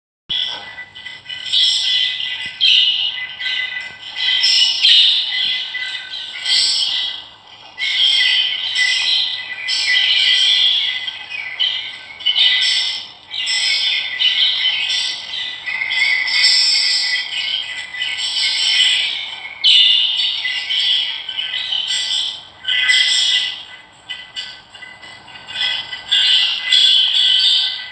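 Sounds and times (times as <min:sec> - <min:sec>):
birds chattering and squawking: 0:00.3 - 0:27.9.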